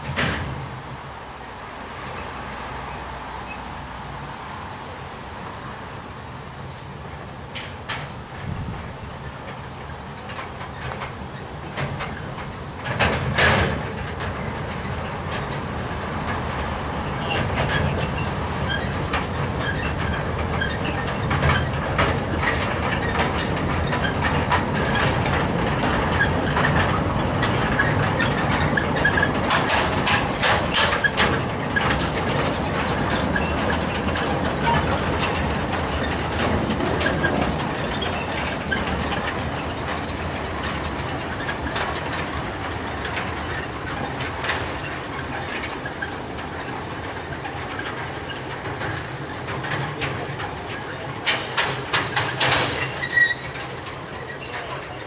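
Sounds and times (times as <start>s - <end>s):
steam locomotive hissing: 0.0s - 55.0s
wagons clattering over rail joints: 0.0s - 55.0s.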